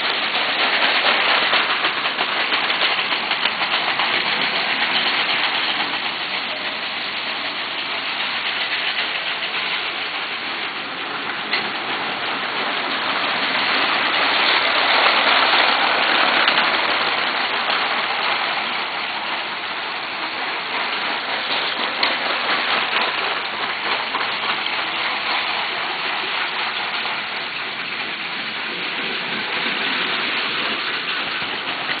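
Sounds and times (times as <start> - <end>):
toy trains rattling on track: 0.0 - 32.0.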